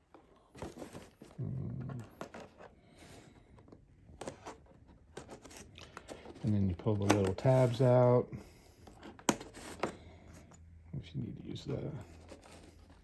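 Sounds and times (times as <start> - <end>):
cardboard box rustling: 0.0 - 8.2, 8.9 - 10.4, 11.8 - 13.0.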